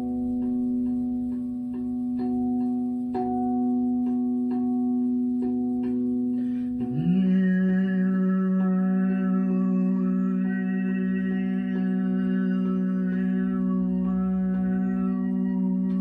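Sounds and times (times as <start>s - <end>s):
metal tongue drum notes: 0.0s - 16.0s
person humming: 0.0s - 16.0s
singing bowl drone: 0.0s - 16.0s.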